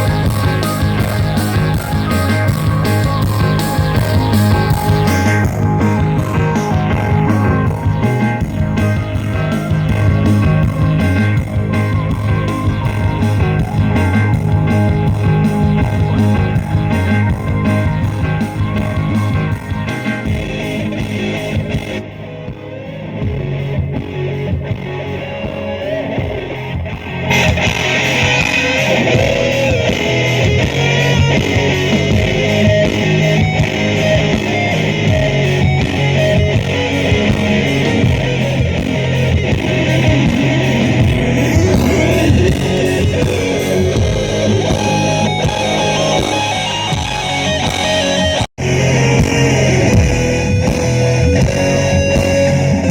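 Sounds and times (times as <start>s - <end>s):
loud rock music: 0.0s - 52.9s.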